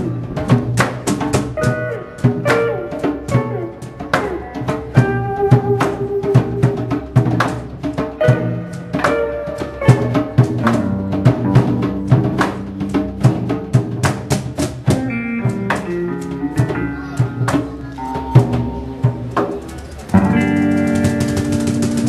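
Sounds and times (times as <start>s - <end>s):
instrumental music with drum beat: 0.0s - 22.0s.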